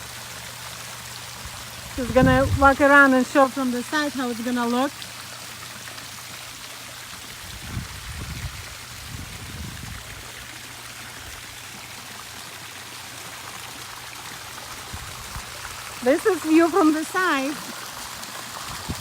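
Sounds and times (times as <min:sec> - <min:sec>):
pond fountain splashing: 0:00.0 - 0:19.0.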